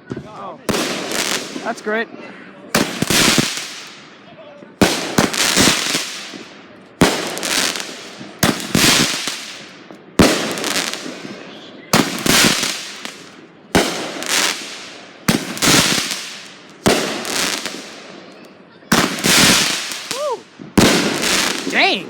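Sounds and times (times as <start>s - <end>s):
fireworks bangs: 0.0s - 22.0s
crackling hiss of fireworks: 0.1s - 22.0s.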